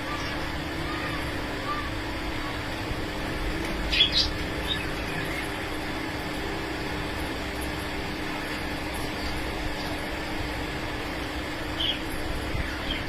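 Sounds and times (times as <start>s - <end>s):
birds chirping: 0.0s - 13.0s
steady background hum: 0.0s - 13.0s.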